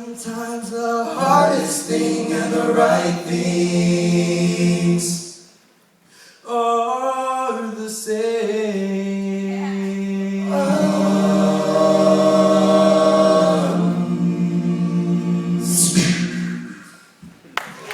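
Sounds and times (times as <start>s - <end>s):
a cappella group singing: 0.0s - 5.6s, 6.4s - 17.2s.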